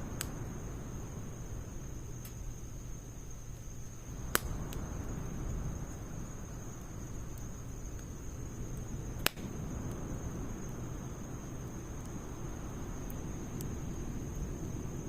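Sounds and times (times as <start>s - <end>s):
sharp pops from fire: 0.0s - 0.5s, 2.1s - 15.0s
firewood burning with crackles: 0.0s - 15.0s.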